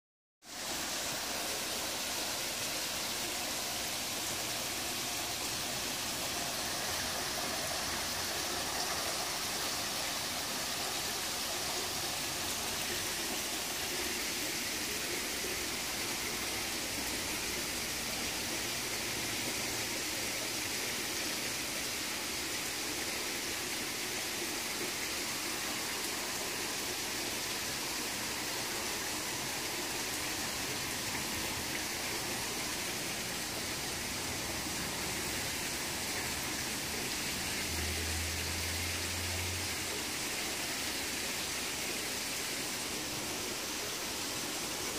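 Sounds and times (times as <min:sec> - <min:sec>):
running water rushing: 0:00.4 - 0:44.9.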